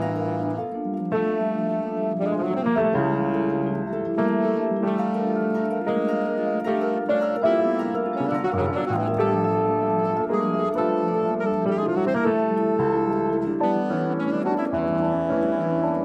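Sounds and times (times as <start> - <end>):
alto saxophone: 0.0 - 16.0
piano chords: 0.0 - 16.0.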